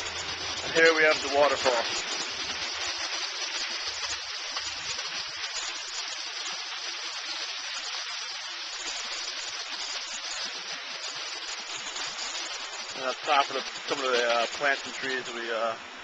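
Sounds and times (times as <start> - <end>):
water splashing over rocks: 0.0 - 16.0.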